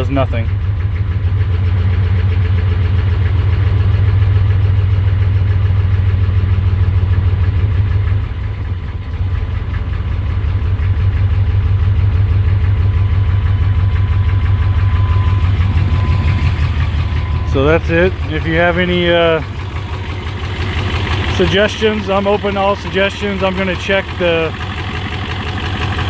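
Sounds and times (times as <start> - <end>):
diesel engine idling roughly: 0.0 - 26.0.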